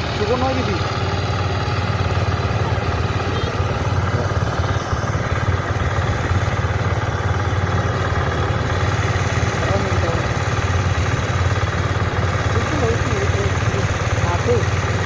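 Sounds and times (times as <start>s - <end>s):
harvester engine running: 0.0s - 15.0s.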